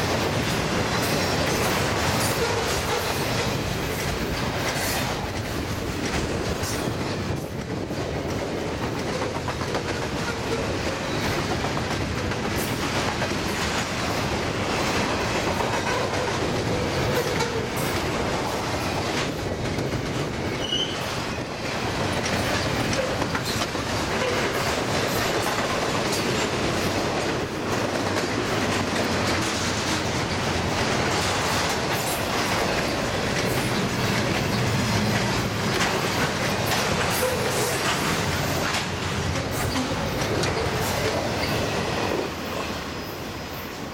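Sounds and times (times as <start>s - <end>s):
wheels clacking over rail joints: 0.0s - 42.7s
freight train rumble and rattle: 0.0s - 43.9s.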